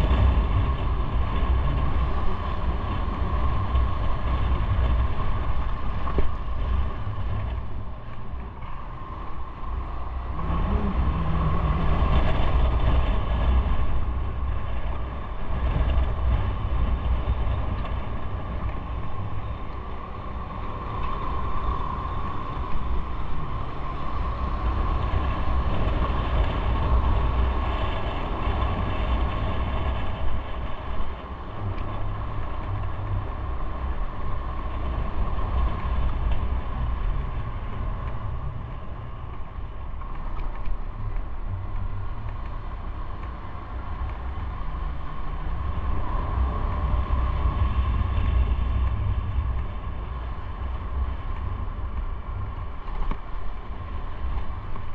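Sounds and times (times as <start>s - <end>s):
road and wind noise: 0.0s - 54.9s.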